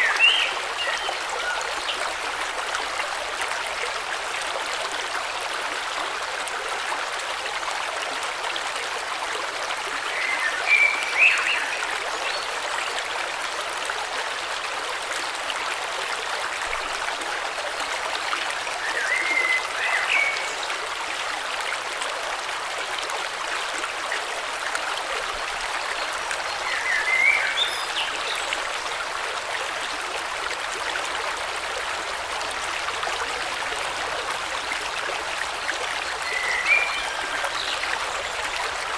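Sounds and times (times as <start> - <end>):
flowing river rushing: 0.0 - 38.9.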